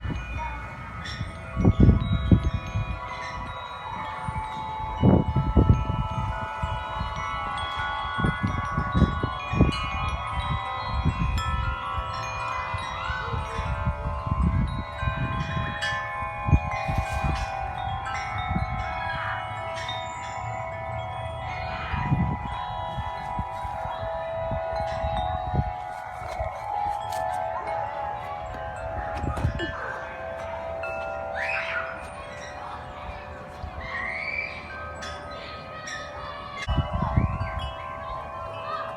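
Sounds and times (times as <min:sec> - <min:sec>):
wind buffeting microphone: 0:00.0 - 0:35.2, 0:36.4 - 0:38.9
metal wind chimes ringing: 0:00.0 - 0:38.9.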